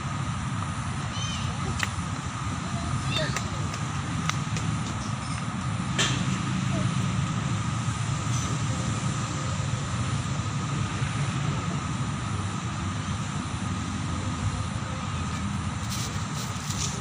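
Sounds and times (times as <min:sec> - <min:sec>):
distant city rumble: 0:00.0 - 0:17.0.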